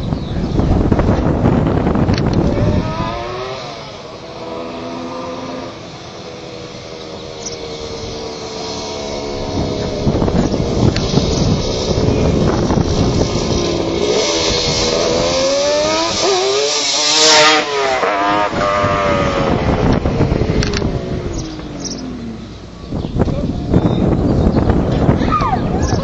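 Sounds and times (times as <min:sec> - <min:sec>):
motorcycle passing by: 0:01.4 - 0:25.2.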